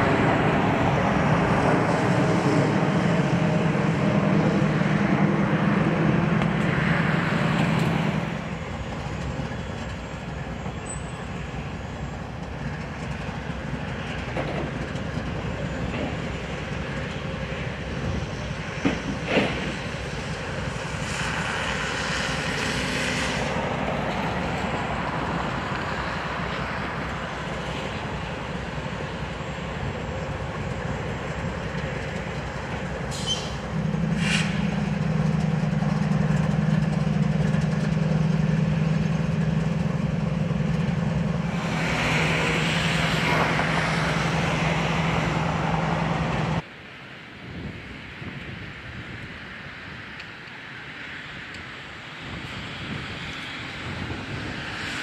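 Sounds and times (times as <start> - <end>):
train wheels rumbling on rails: 0.0 - 46.7.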